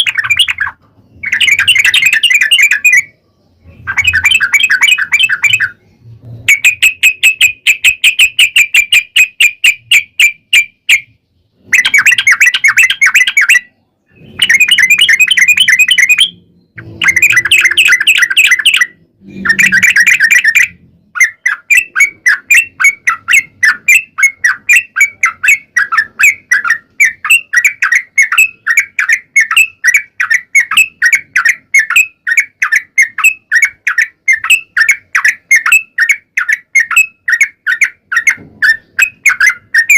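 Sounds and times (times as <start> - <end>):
bulbul singing repeated notes: 0.0 - 39.9.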